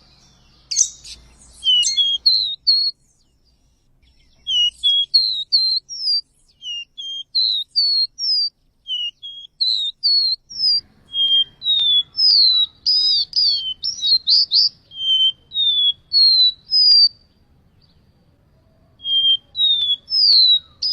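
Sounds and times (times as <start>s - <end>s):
bird singing whistled notes: 0.0s - 20.9s
faint low hum: 0.0s - 20.9s.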